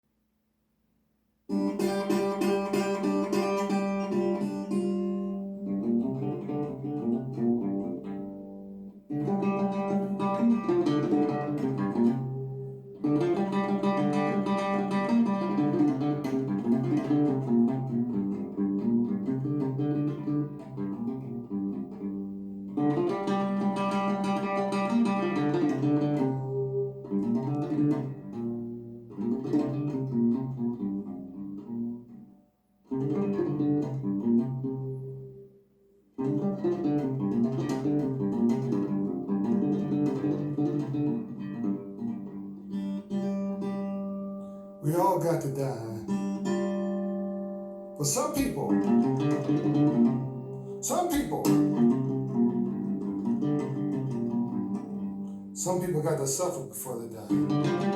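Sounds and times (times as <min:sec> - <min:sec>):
guitar music with bass line: 0:01.5 - 0:35.5, 0:36.2 - 0:57.9.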